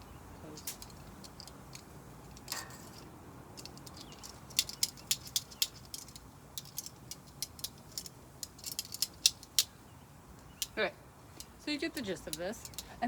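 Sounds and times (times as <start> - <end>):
shrimp sizzling and crackling: 0.0 - 13.0.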